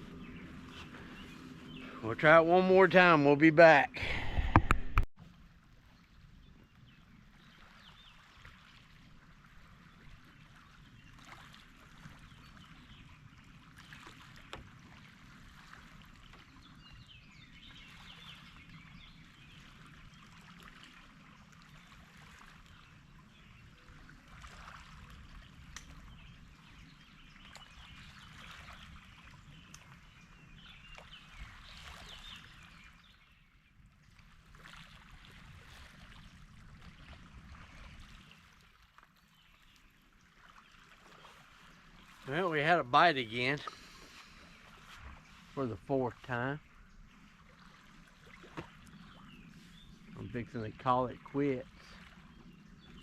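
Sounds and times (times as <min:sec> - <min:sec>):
low rumble of water and wind: 0:00.0 - 0:53.0.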